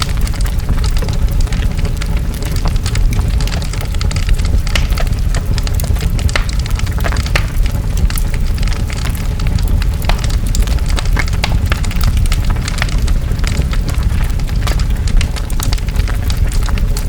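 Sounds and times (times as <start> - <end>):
large fire crackling and popping: 0.0 - 17.0.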